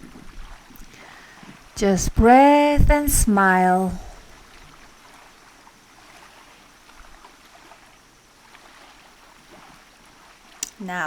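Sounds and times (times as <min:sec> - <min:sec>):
light water splashes: 0:00.0 - 0:11.0
water lapping: 0:00.0 - 0:11.0.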